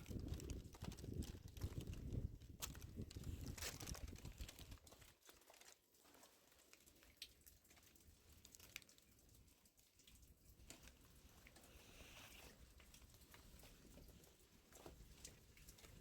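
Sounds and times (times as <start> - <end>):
faint crackles and rustles: 0.0 - 16.0.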